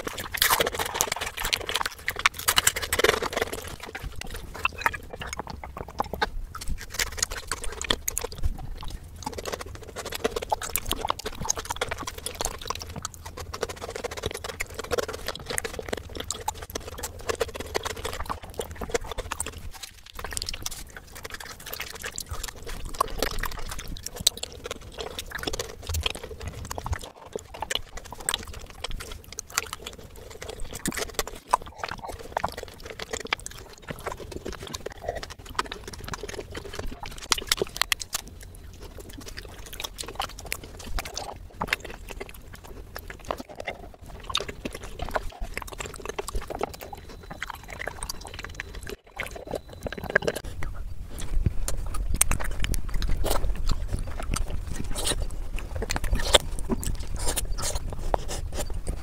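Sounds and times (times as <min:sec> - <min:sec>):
chocolate being bitten and chewed: 0:00.0 - 0:59.0
wet mouth clicks and lip smacks: 0:00.0 - 0:59.0.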